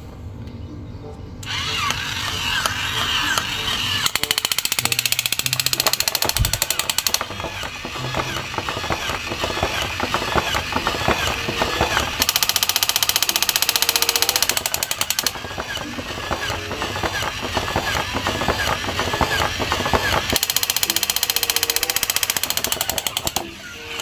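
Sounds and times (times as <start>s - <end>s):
toy machine-gun rattle: 1.4s - 24.0s.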